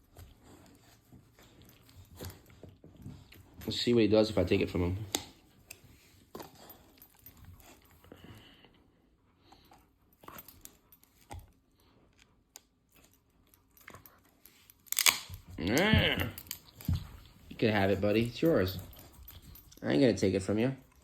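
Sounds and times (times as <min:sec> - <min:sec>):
dog gnawing on a bone: 0:00.0 - 0:08.4, 0:09.5 - 0:21.0.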